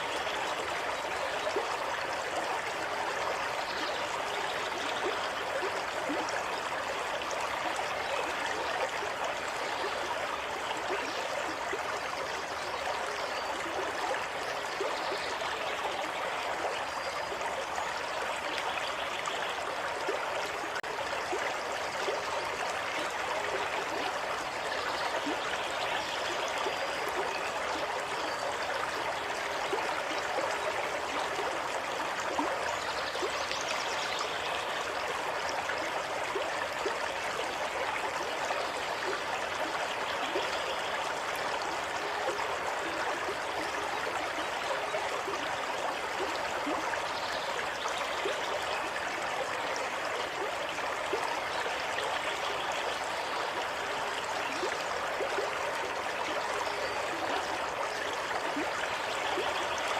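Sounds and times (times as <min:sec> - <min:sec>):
stream water trickling: 0:00.0 - 0:59.9.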